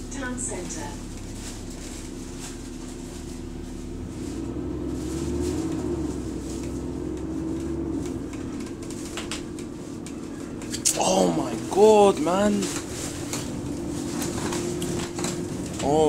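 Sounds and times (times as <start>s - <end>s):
bus cooling fan whining: 0.0s - 16.0s
bus engine drone: 0.0s - 16.0s.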